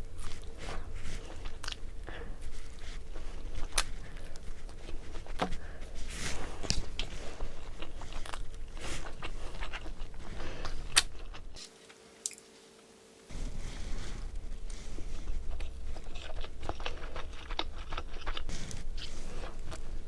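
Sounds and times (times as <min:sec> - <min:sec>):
person chewing and biting food: 0:00.0 - 0:12.5, 0:13.4 - 0:20.0.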